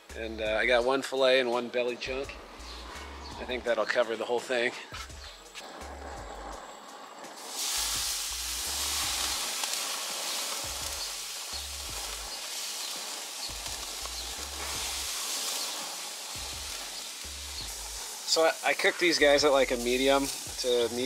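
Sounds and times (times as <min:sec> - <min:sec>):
fish sizzling on grill: 0:00.0 - 0:21.0.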